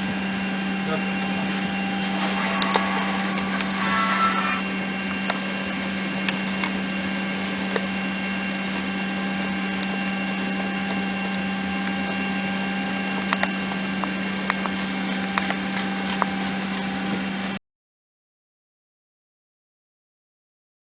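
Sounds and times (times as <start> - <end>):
jet airliner engine drone: 0.0 - 17.6.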